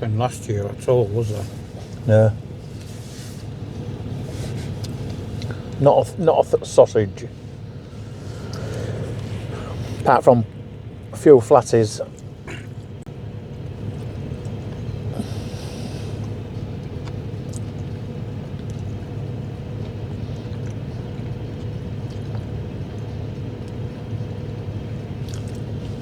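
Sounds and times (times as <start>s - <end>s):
low mechanical rumble: 0.0s - 26.0s.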